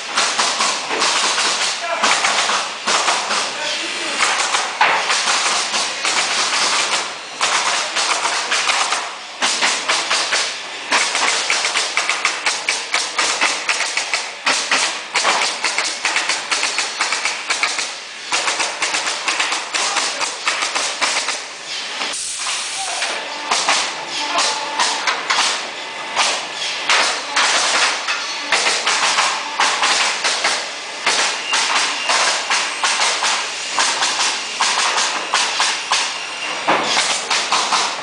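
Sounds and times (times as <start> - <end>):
pneumatic nailers firing: 0.0 - 38.0
air hissing: 0.3 - 38.0.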